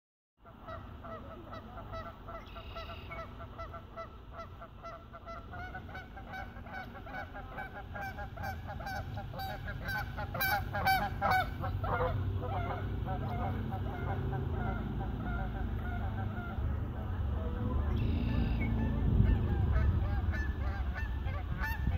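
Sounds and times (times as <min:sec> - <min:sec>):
geese honking: 0:00.4 - 0:21.9
steady low rumble: 0:00.4 - 0:21.9.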